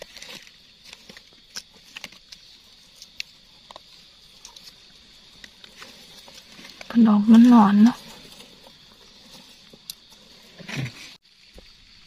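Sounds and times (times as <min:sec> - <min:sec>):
leaf litter crackling: 0:00.0 - 0:11.2.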